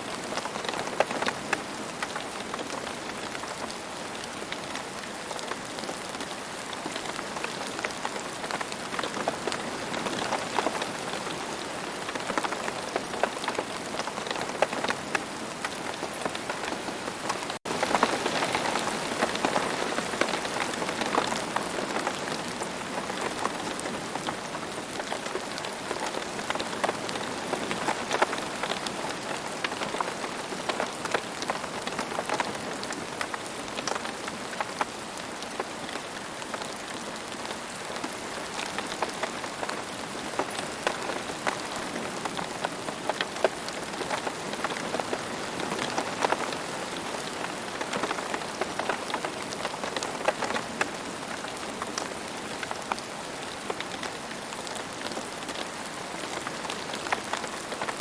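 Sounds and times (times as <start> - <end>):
raindrops pattering: 0.0 - 58.0.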